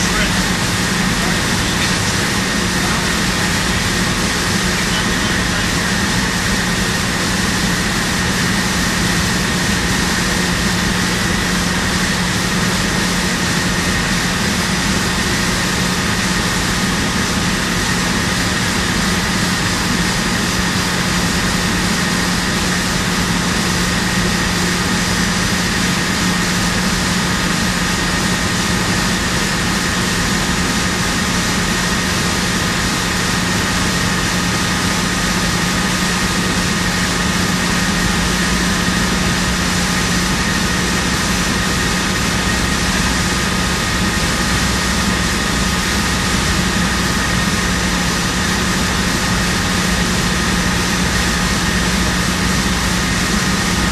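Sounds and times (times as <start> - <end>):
machinery drone: 0.0 - 53.9.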